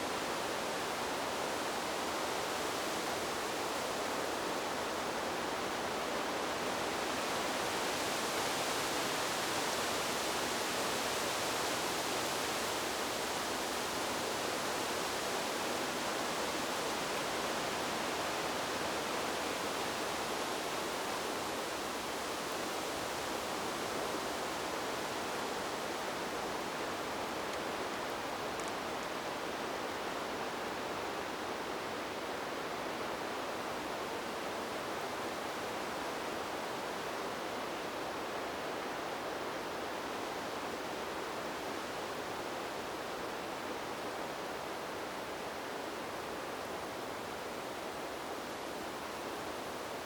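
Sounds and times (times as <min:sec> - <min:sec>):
wind blowing through trees: 0:00.0 - 0:50.0.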